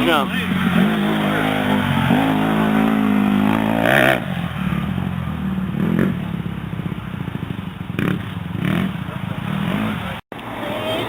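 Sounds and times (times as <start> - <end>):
dirt bike engine revving: 0.0 - 10.2.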